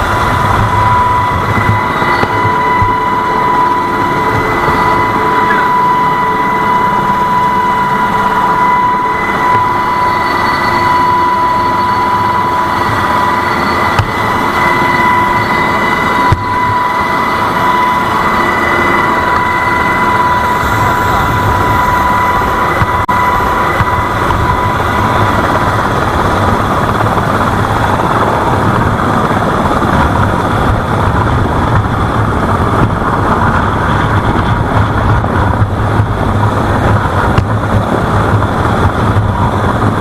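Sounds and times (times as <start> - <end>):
heavy machinery running: 0.0 - 40.0
high mechanical whine: 0.0 - 40.0.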